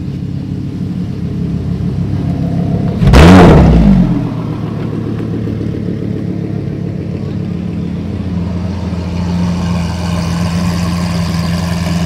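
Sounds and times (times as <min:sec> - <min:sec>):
car engine revving: 0:01.8 - 0:12.0.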